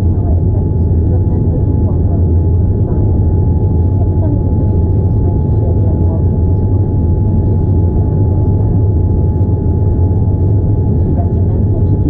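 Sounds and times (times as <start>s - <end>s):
airliner cabin rumble: 0.0s - 12.0s
thin steady hum: 0.0s - 12.0s.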